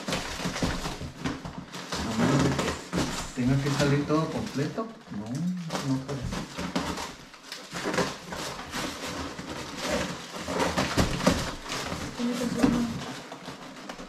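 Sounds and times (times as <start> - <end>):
cardboard and styrofoam scraping: 0.0 - 14.0.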